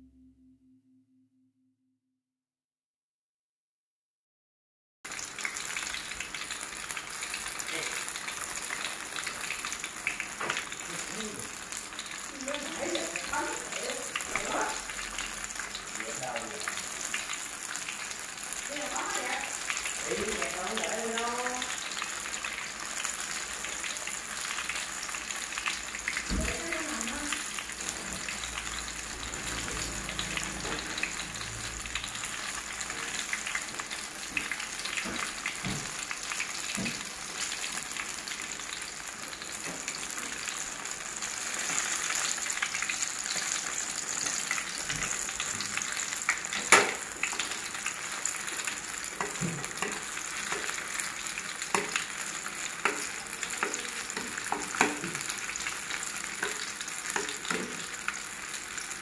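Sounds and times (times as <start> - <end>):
hot oil sizzling and crackling: 5.1 - 59.0.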